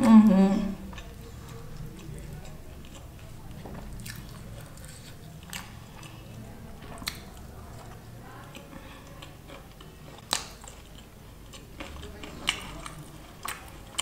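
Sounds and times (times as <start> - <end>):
chewing and lip smacking: 0.8 - 14.0.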